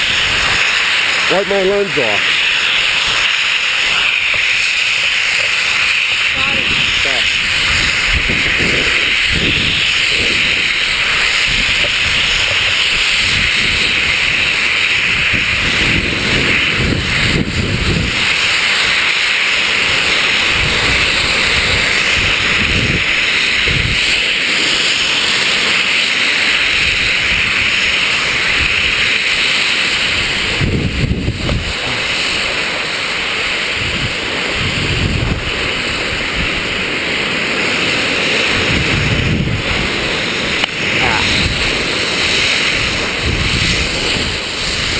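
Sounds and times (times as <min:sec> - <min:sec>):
wind over microphone: 0:00.0 - 0:01.4, 0:02.8 - 0:25.9, 0:26.6 - 0:44.9
skis scraping on snow: 0:00.0 - 0:44.9.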